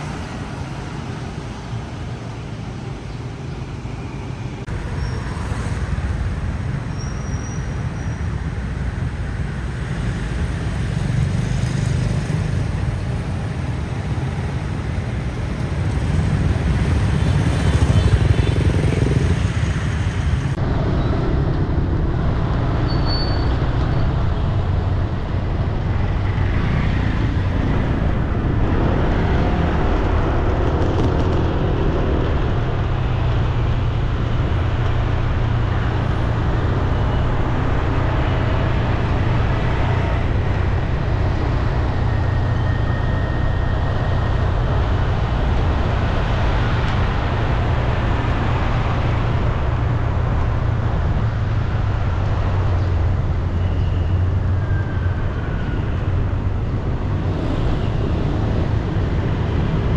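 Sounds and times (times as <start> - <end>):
passing vehicle engines: 0.0 - 59.9.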